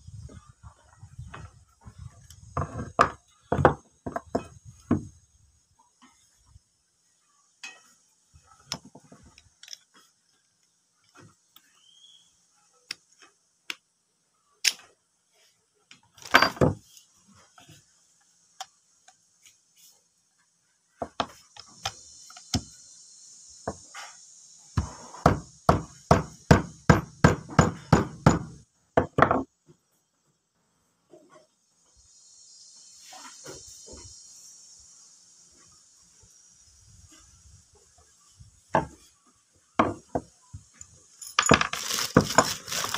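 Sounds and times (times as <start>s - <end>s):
steady high hiss: 0.0s - 42.9s.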